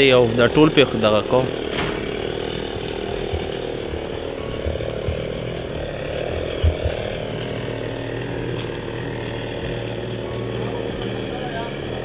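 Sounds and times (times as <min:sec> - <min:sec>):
dull low thumps: 0:00.0 - 0:11.8
chainsaw cutting bushes: 0:00.0 - 0:12.0.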